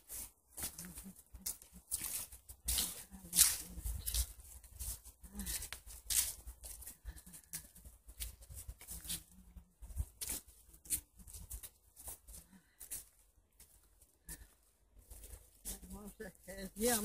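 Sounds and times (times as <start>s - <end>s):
footsteps on dry leaves: 0.0s - 17.0s.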